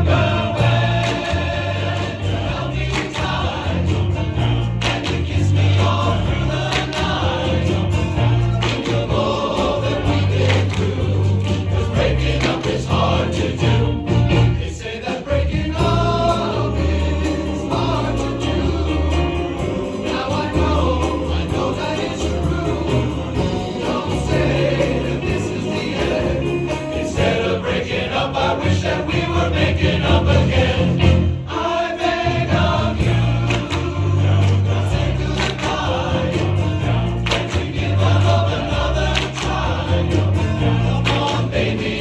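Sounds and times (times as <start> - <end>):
held bass notes: 0.0 - 14.7, 15.5 - 31.5, 32.2 - 42.0
instrumental accompaniment: 0.0 - 42.0
male chorus singing pop song: 0.0 - 42.0.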